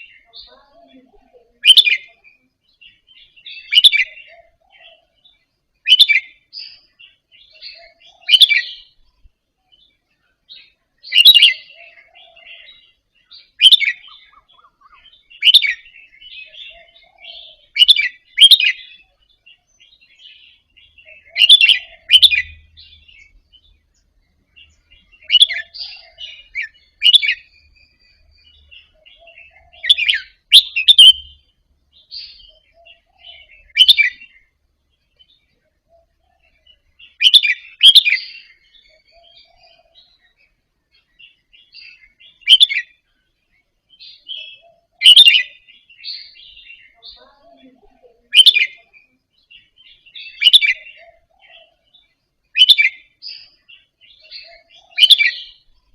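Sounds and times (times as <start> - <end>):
bird singing: 0.0 - 55.9
soft bird twittering: 0.0 - 55.9.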